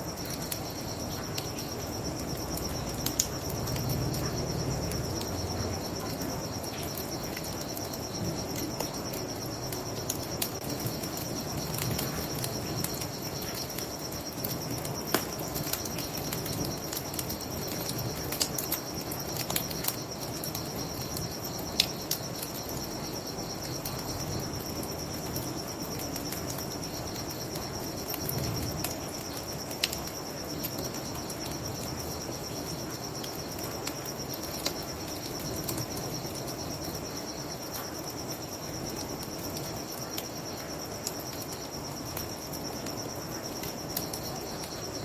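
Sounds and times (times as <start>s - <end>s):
crickets chirping: 0.0s - 45.0s
wood fire crackling and popping: 0.0s - 45.0s.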